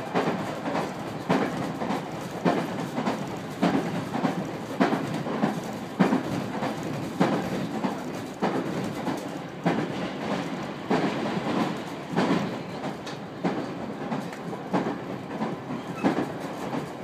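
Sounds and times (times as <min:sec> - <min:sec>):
train running rumble: 0:00.0 - 0:17.0
train wheels clacking over joints: 0:00.0 - 0:17.0.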